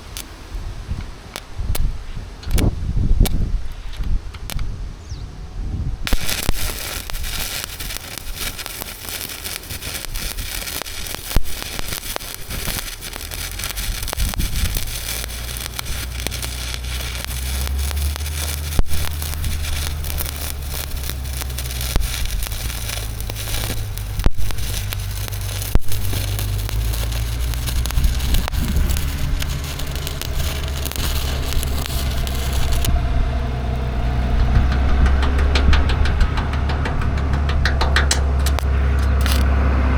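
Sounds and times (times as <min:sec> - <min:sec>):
crackling welding arc: 0:00.0 - 0:04.7, 0:06.1 - 0:35.4, 0:38.2 - 0:39.7
steady low hum: 0:04.2 - 0:37.7.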